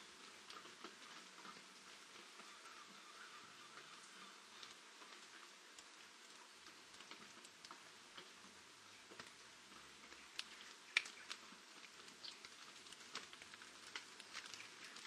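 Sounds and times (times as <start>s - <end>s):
light rain on leaves: 0.0s - 15.0s
water drips ticking: 0.1s - 15.0s.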